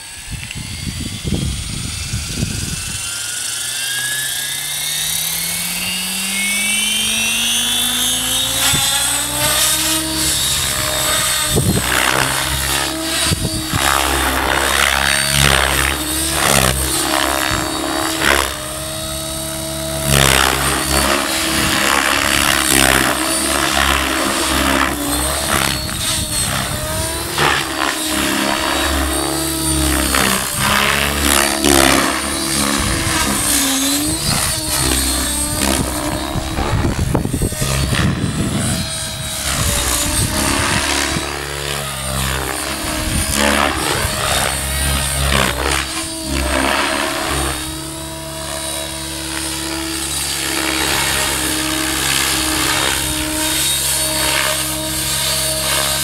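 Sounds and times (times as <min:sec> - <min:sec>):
rc helicopter rotor and motor whine: 0:00.0 - 0:56.0.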